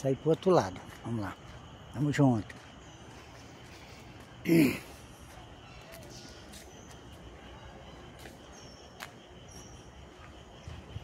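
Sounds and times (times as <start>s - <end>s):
faint insects: 0.0s - 11.0s
bird chirps: 2.0s - 11.0s.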